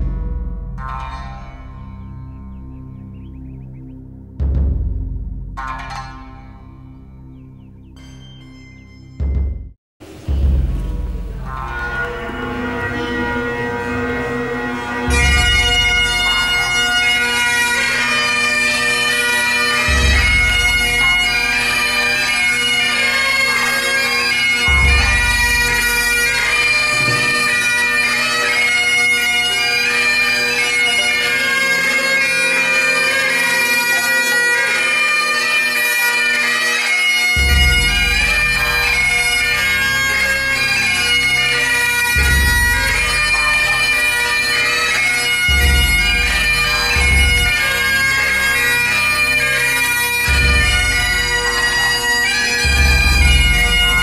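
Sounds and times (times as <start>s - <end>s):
bagpipes playing a tune: 10.8s - 54.0s.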